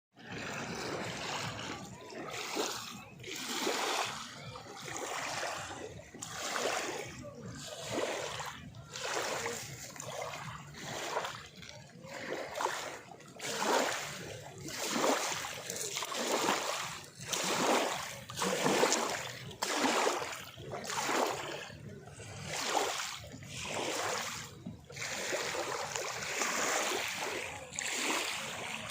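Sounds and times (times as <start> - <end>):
water splashing rhythmically: 0.1 - 28.9.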